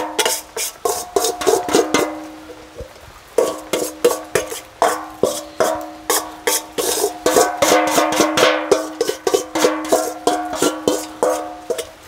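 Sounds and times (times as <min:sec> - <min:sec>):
metal spoon knocking metal bowl: 0:00.0 - 0:02.2, 0:03.4 - 0:11.9.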